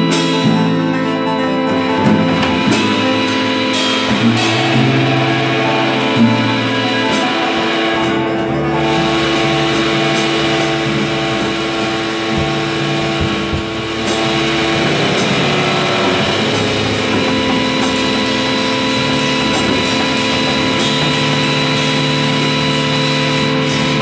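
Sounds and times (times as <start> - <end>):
distorted band music: 0.0 - 24.0.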